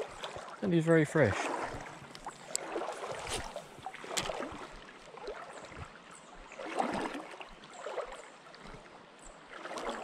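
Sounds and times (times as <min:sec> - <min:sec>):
water sloshing around wading legs: 0:00.0 - 0:10.0.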